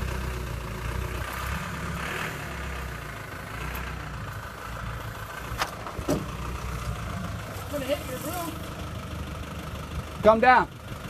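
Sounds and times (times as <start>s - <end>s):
loader engine idling: 0.0s - 11.0s.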